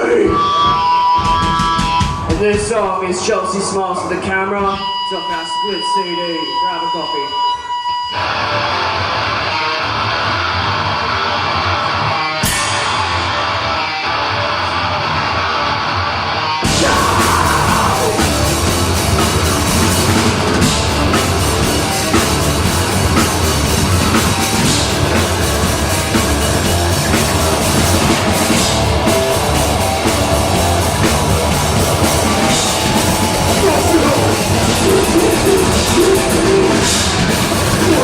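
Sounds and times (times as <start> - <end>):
metal band playing: 0.0 - 38.0.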